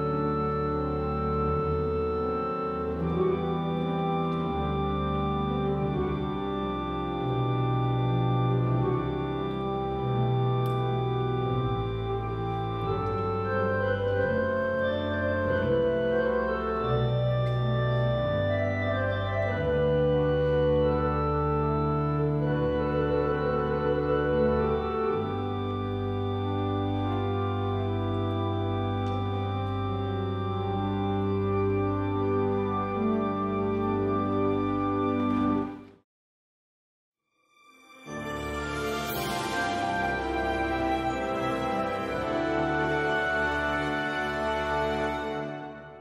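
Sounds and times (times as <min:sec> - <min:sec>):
pipe organ playing chords: 0:00.0 - 0:36.0, 0:37.9 - 0:46.0.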